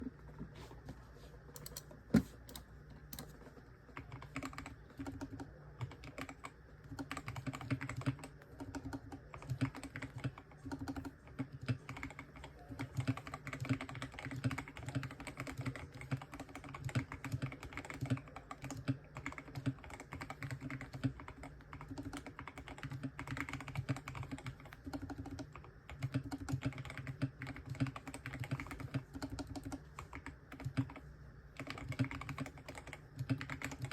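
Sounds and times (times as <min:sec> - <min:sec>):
fast typing on mechanical keyboard: 0:02.5 - 0:33.9.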